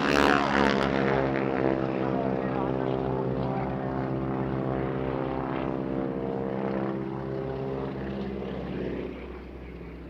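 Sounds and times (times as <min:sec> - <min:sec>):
biplane engine and propeller: 0:00.0 - 0:10.0.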